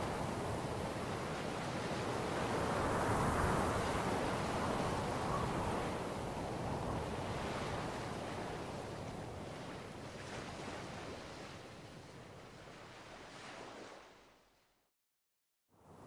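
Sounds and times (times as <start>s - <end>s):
ocean waves breaking: 0.0s - 11.8s, 12.4s - 14.4s.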